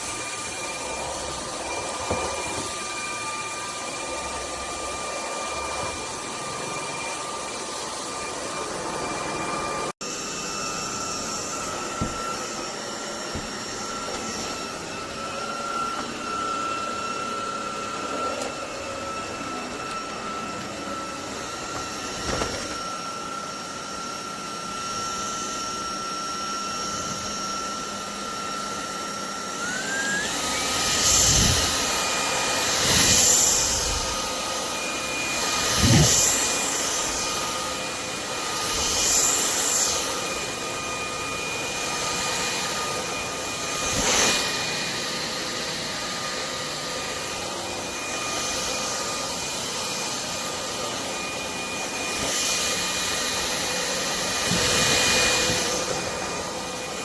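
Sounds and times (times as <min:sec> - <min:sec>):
stick vacuum whining: 0:00.0 - 0:57.0.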